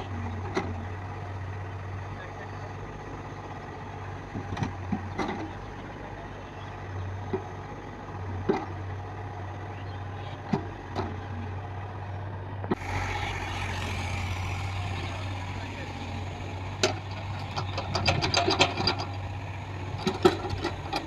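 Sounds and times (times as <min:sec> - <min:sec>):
heavy diesel machinery engine: 0:00.0 - 0:21.0.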